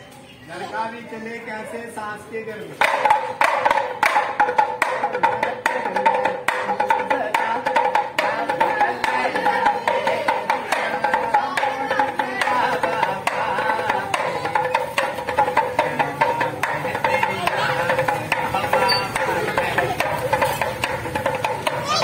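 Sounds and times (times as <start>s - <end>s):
pellet drum clacking: 2.8s - 22.0s.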